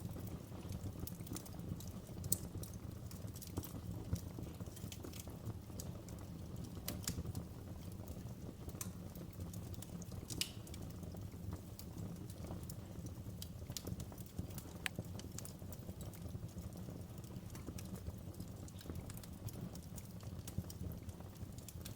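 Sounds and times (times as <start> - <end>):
wood fire crackling in fireplace: 0.0 - 21.9.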